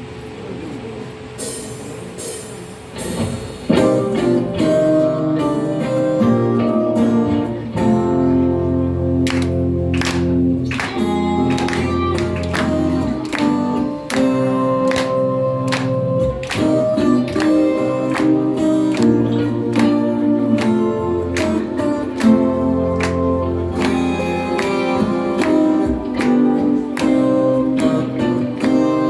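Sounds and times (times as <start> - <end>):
bass: 3.0 - 29.0
guitar melody: 3.1 - 29.0.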